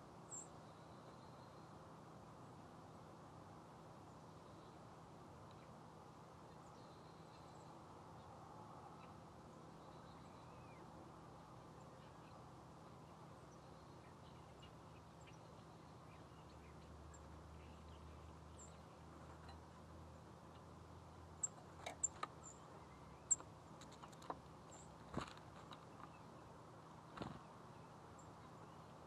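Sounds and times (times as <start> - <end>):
faint steady hum: 0.0 - 29.0
songbirds chipping: 0.0 - 29.0.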